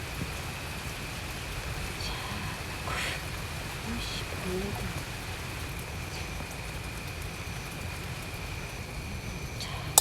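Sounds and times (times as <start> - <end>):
steady rain falling: 0.0 - 9.8.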